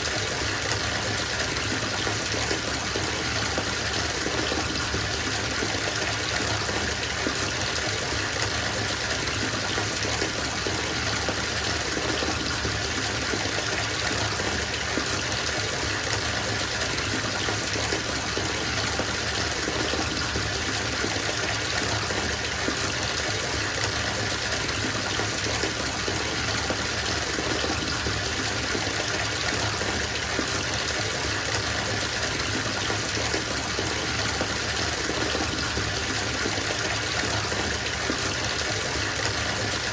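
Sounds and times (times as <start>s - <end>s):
water pouring into bathtub: 0.0s - 39.9s.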